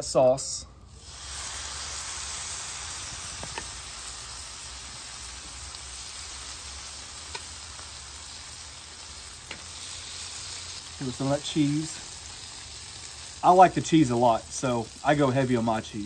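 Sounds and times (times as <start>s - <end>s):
tortillas sizzling on griddle: 0.8s - 16.0s.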